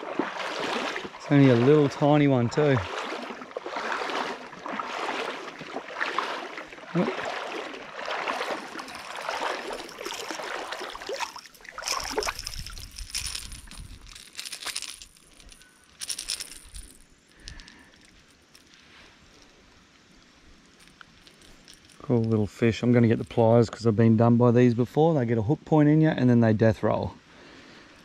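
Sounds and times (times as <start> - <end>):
water splashing and sloshing: 0.0 - 19.8, 20.5 - 23.5.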